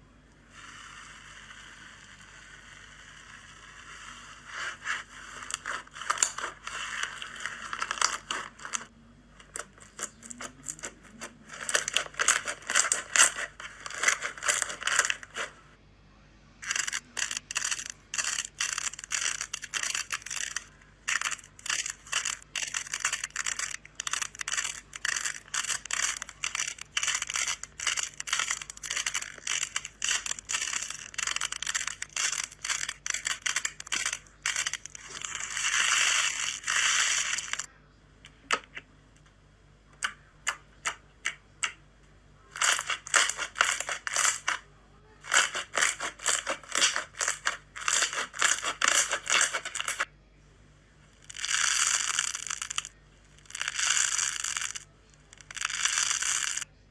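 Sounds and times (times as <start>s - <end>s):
slime squeezed crackling: 1.1s - 15.7s, 16.6s - 37.7s, 42.5s - 44.6s, 45.2s - 50.1s, 51.1s - 56.7s.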